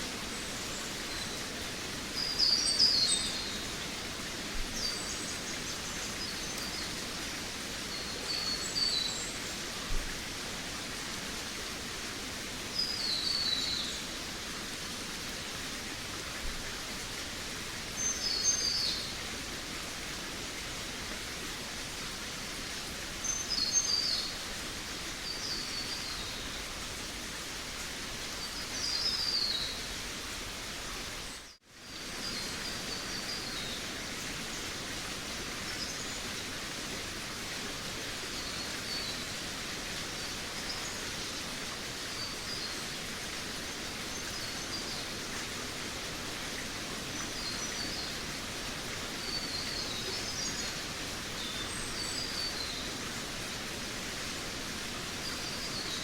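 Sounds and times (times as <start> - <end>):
background hiss: 0.0 - 56.0.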